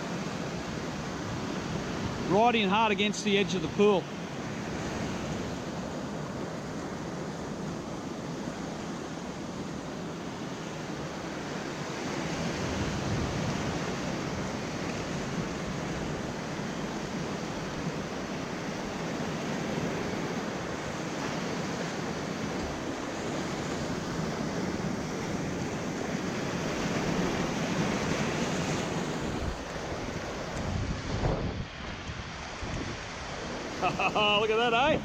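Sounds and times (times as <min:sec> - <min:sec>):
waves washing against rocks: 0:00.0 - 0:35.0.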